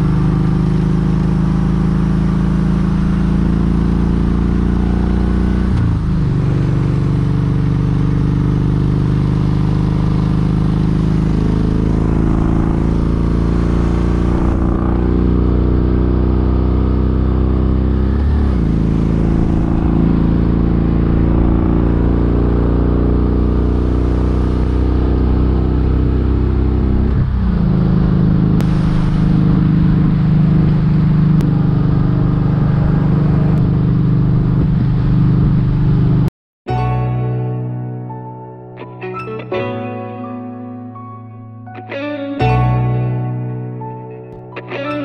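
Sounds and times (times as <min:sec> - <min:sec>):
motorcycle engine running: 0:00.0 - 0:36.3.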